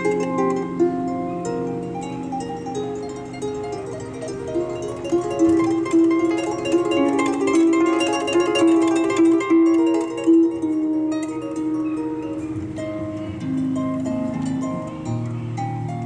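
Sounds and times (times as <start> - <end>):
solo harp playing a waltz: 0.0 - 16.0.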